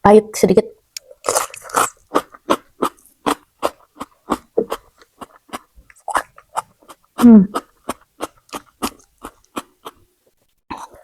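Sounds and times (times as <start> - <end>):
chewing crunchy vegetables: 1.0 - 11.0.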